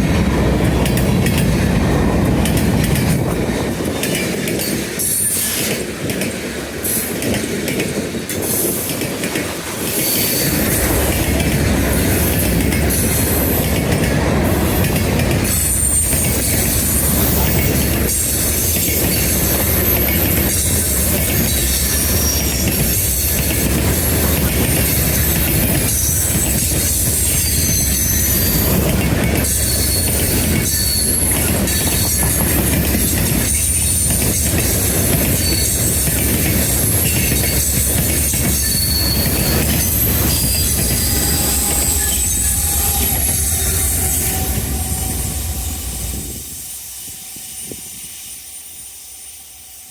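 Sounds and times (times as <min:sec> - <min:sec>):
train cars clanking: 0:00.0 - 0:49.9
train rolling past: 0:00.0 - 0:49.9
wheels squealing against rail: 0:04.2 - 0:05.9, 0:08.3 - 0:49.9.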